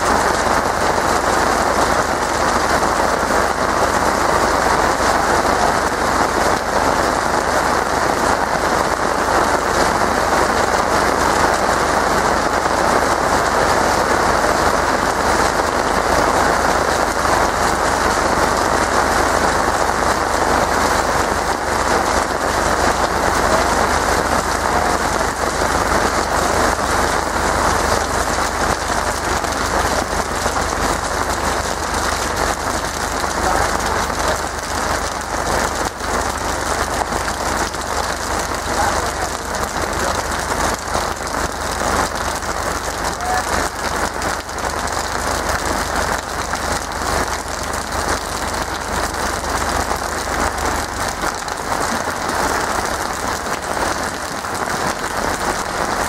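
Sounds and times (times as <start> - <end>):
rain falling and splashing: 0.0 - 56.0.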